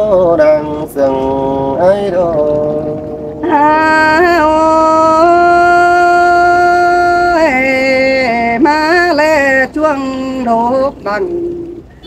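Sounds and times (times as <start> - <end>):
woman singing unaccompanied: 0.0 - 11.9.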